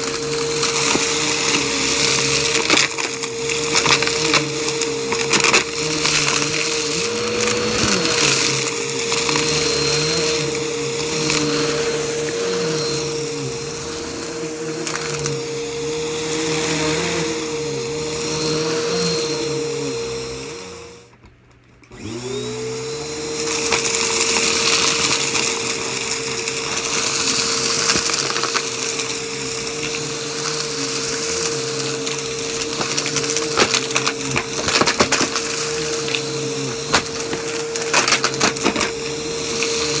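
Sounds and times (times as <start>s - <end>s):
debris crackling in vacuum: 0.0s - 17.6s, 23.4s - 40.0s
vacuum cleaner running: 0.0s - 40.0s.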